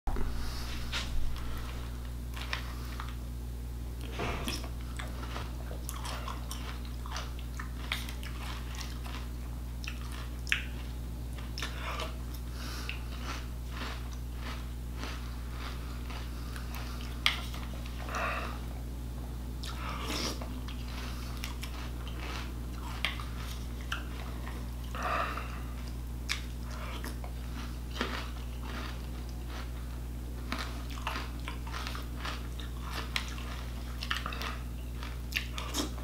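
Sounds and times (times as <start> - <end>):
low hum: 0.1 - 35.6
crunching cereal: 4.0 - 18.6, 19.7 - 36.0.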